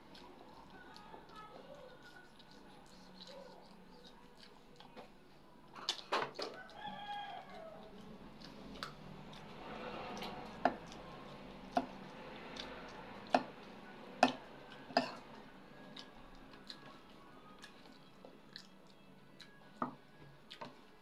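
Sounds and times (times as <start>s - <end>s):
chewing food: 0.0s - 21.0s.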